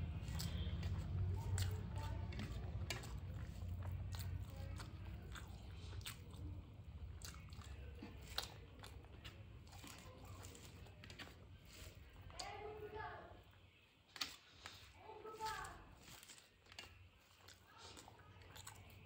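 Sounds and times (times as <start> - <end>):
chewing with wet mouth clicks: 0.0 - 12.6, 13.4 - 19.0.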